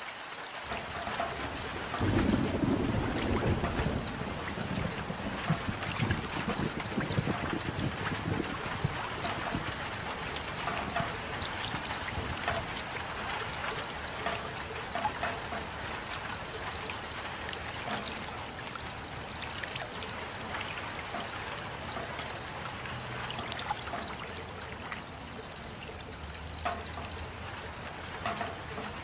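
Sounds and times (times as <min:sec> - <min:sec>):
raindrops ticking close by: 0:00.0 - 0:29.0
steady rain: 0:00.0 - 0:29.0
water trickling: 0:00.0 - 0:29.0.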